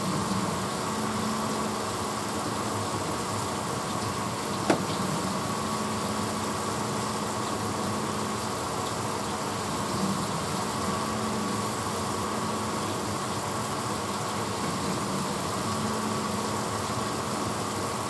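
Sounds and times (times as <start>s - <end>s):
dishwasher motor hum: 0.0s - 18.0s.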